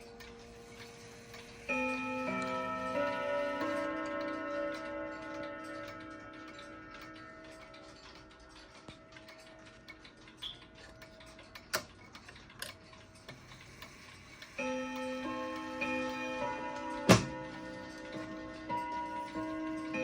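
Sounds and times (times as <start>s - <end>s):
clock chime: 0.0s - 12.0s, 12.6s - 20.0s
clock ticking: 0.0s - 20.0s.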